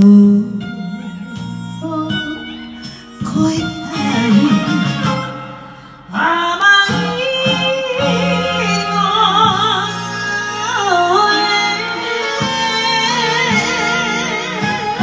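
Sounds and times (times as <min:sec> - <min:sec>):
woman singing with vibrato: 0:00.0 - 0:05.4, 0:06.0 - 0:15.0
karaoke backing track: 0:00.0 - 0:15.0.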